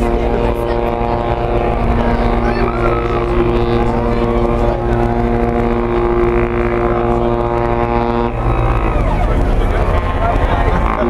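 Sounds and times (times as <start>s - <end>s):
deep ship horn blast: 0.0s - 11.0s.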